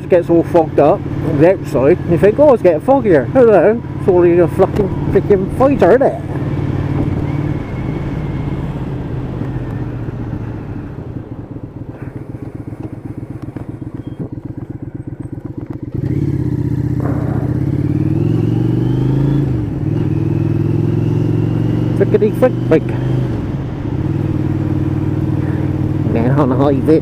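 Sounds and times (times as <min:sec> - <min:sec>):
motorcycle engine: 0:00.0 - 0:27.0.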